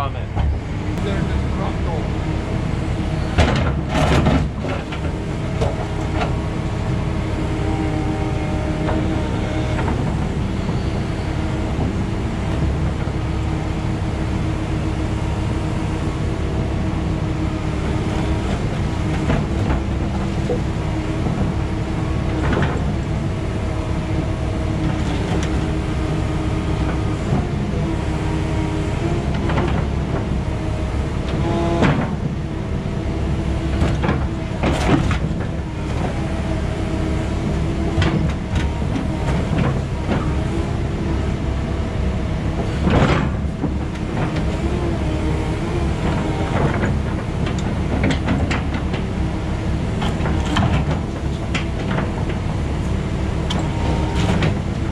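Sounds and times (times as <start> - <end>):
excavator engine running: 0.0 - 54.9
hydraulics whining: 0.0 - 54.9.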